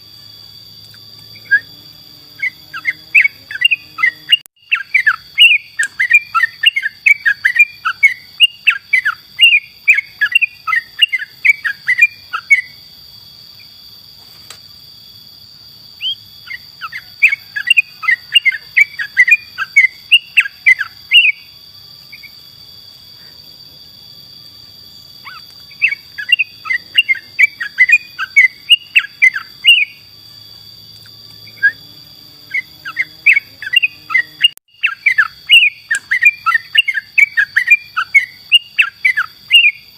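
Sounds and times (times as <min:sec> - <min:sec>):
bulbul chirping: 0:01.0 - 0:12.8, 0:16.0 - 0:22.7, 0:25.1 - 0:30.2, 0:31.1 - 0:39.9.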